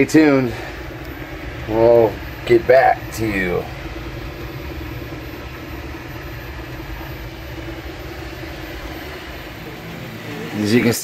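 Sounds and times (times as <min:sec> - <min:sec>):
three-d printer humming: 0:00.0 - 0:11.0.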